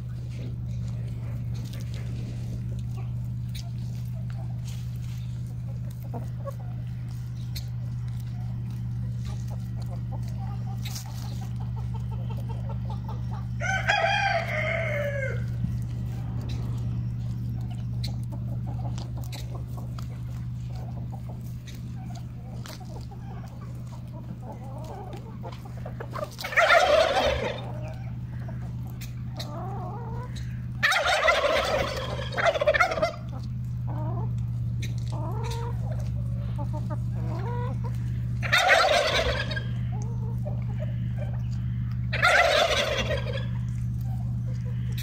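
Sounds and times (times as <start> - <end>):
hens calling loudly: 0.0 - 45.0
hens clucking: 0.0 - 45.0
steady low hum: 0.0 - 45.0.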